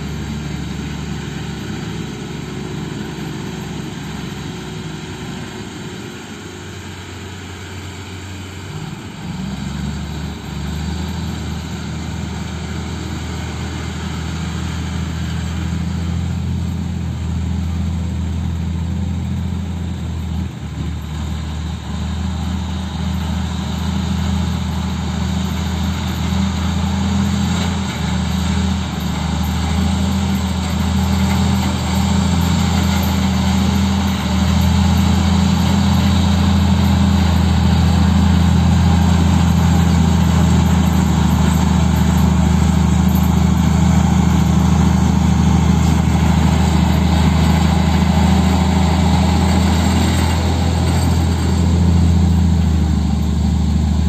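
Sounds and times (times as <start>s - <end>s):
bulldozer working: 0.0s - 54.0s
dump truck diesel engine: 0.0s - 54.0s.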